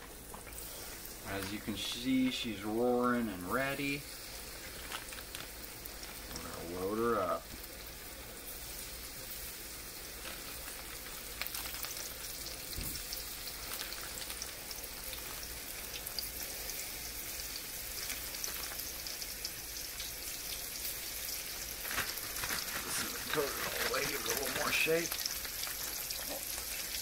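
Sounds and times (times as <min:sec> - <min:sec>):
fish frying in hot oil: 0:00.0 - 0:27.0.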